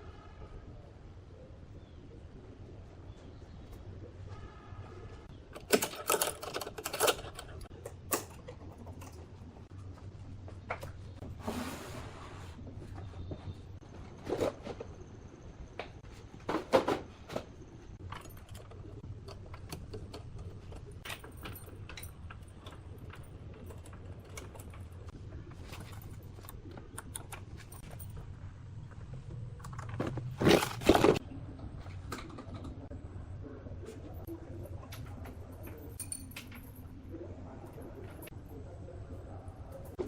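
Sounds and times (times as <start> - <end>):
steady low hum: 6.7 - 40.0.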